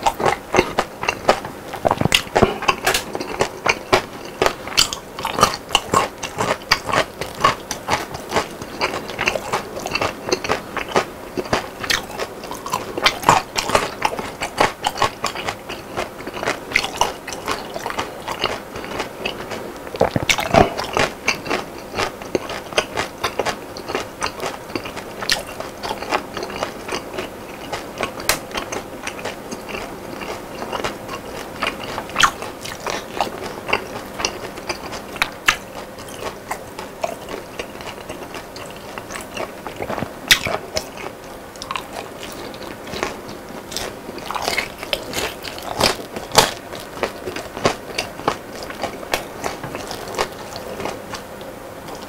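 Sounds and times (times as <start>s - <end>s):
chewing crispy fried food: 0.0s - 52.0s.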